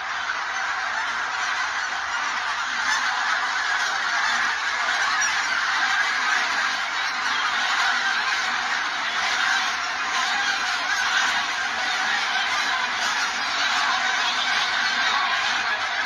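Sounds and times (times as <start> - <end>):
wild geese honking: 0.0 - 16.0.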